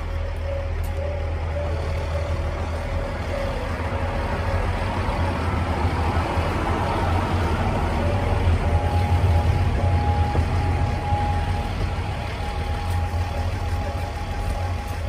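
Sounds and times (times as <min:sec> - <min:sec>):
diesel railcar engine rumbling: 0:00.0 - 0:15.0
faint steady tone: 0:00.0 - 0:15.0.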